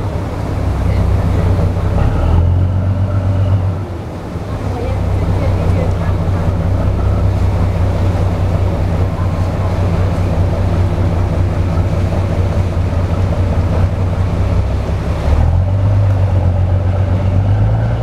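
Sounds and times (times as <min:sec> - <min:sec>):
boat engine running: 0:00.0 - 0:18.0
water wash: 0:00.0 - 0:18.0.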